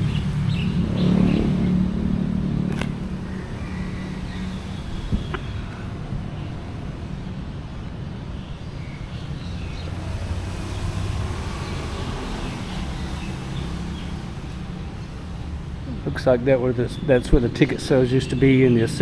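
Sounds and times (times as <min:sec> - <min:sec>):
traffic engine rumble: 0:00.0 - 0:19.0.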